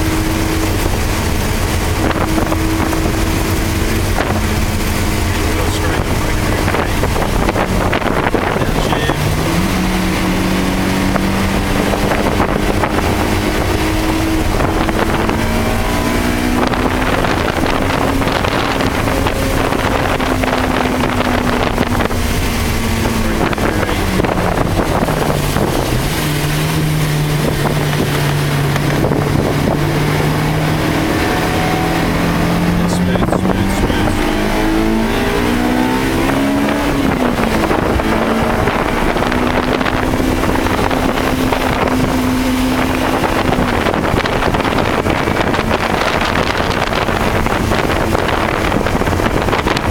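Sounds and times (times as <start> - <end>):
car engine revving: 0.0 - 49.9
wind: 0.0 - 49.9.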